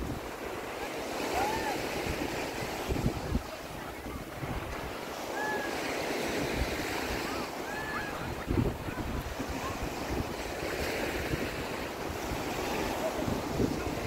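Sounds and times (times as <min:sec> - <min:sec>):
waves washing up shore: 0:00.0 - 0:14.0
wind buffeting microphone: 0:00.0 - 0:14.0.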